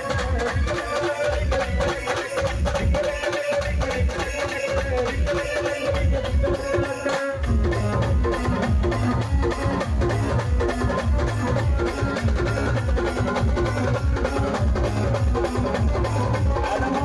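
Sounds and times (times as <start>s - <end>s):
driving drum beat: 0.0s - 17.0s
fast dance band music: 0.0s - 17.0s.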